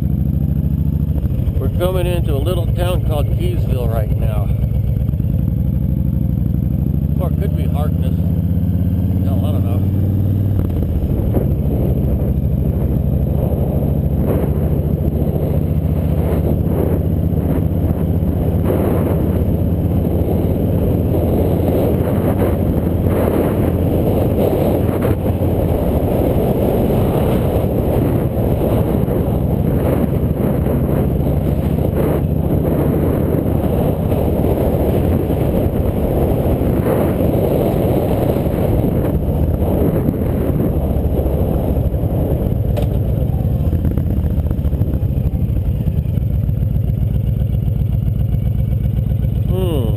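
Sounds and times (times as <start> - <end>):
motorbike engine running: 0.0 - 49.9
wind and road noise: 0.0 - 49.9.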